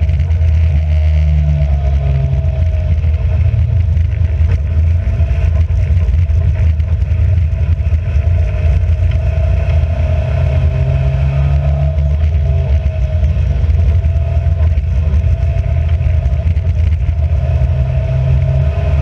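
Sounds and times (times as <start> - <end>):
race car engine running hard: 0.0 - 19.0.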